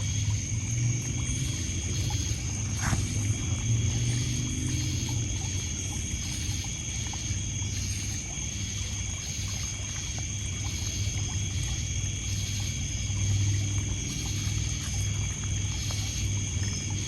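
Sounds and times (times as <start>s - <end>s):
crickets and insects chirping: 0.0s - 17.0s
water splashing on pebbles: 0.0s - 17.0s.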